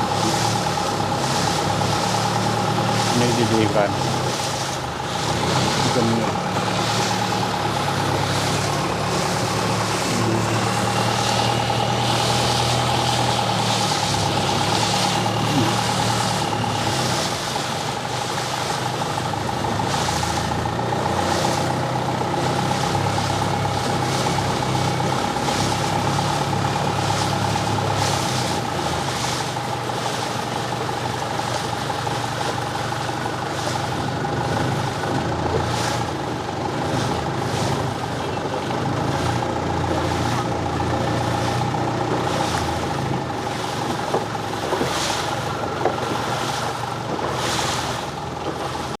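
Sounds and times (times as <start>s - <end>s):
engine idling: 0.0s - 49.0s.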